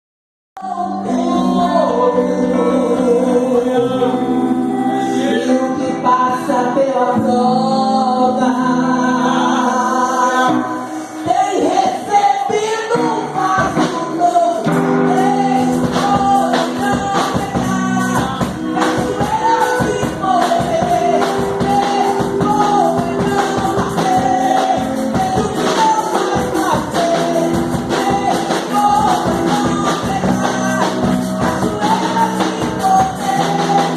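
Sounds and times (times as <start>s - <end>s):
singing over full band: 0.6s - 33.9s.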